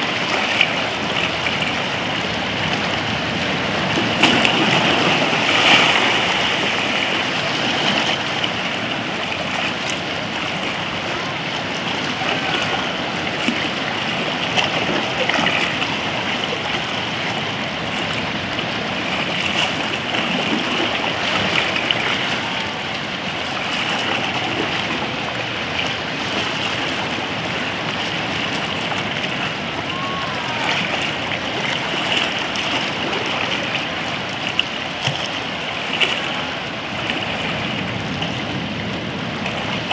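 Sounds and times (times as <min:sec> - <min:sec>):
sea water lapping around rocks: 0:00.0 - 0:39.9.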